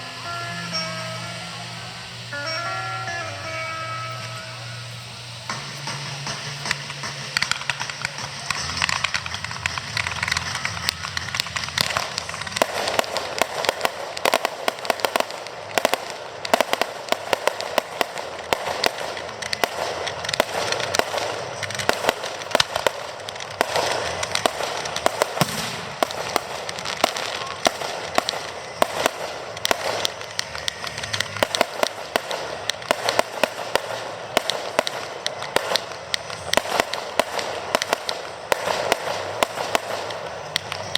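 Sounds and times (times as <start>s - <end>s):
fireworks popping and cracking: 0.0s - 40.9s
loud firework reports: 0.0s - 40.9s.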